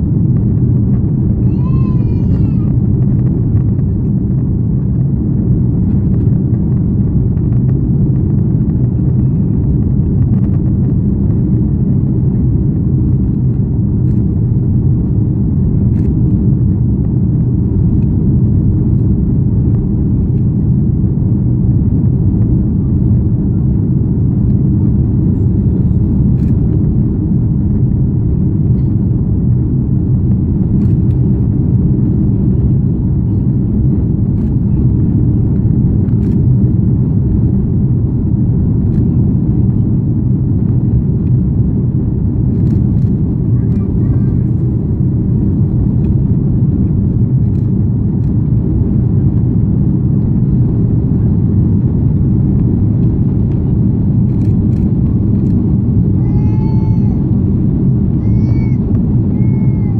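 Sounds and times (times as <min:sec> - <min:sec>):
jet airliner cabin rumble: 0:00.0 - 0:59.9.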